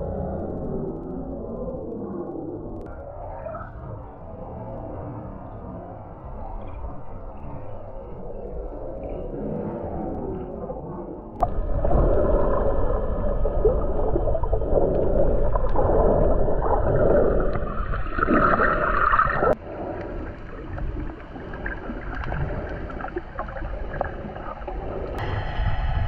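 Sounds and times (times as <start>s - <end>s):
muffled underwater sloshing: 4.3s - 25.9s.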